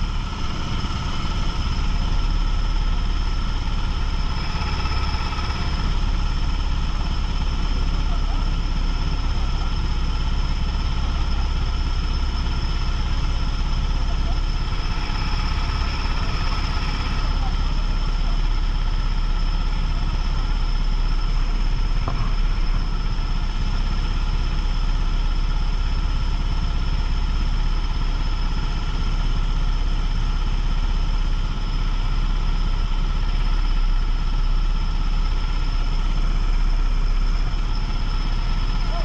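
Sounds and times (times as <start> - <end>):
constant rumble: 0.0 - 39.0
kart engine running: 0.0 - 39.0.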